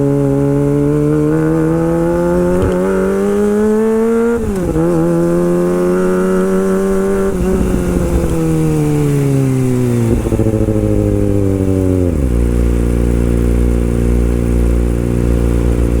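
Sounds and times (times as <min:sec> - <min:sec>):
motorcycle engine revving and idling: 0:00.0 - 0:16.0.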